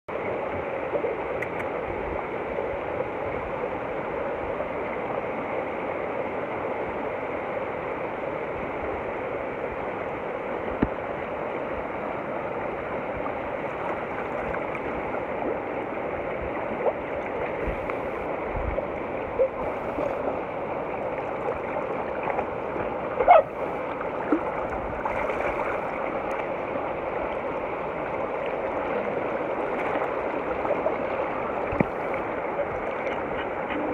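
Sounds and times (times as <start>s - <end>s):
water rushing over boulders: 0.1s - 33.9s.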